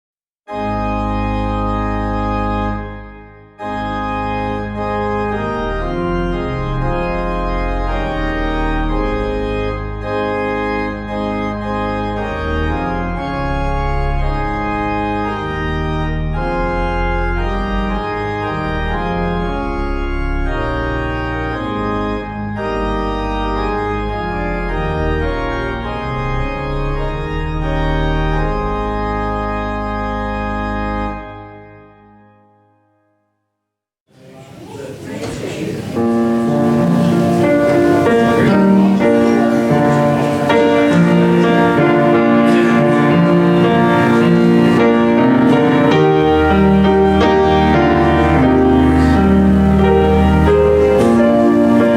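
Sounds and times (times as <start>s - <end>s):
organ chords: 0.5s - 33.0s, 35.8s - 51.9s.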